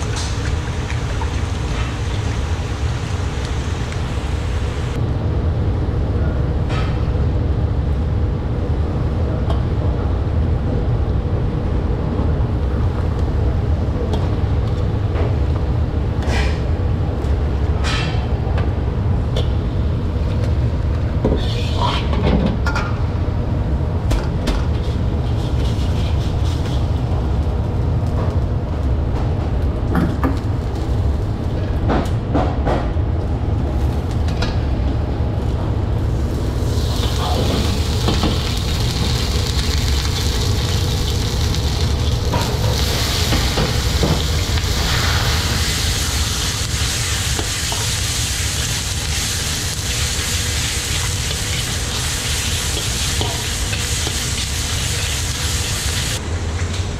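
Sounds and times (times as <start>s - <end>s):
wok burner roaring: 0.0s - 32.3s, 32.9s - 56.9s.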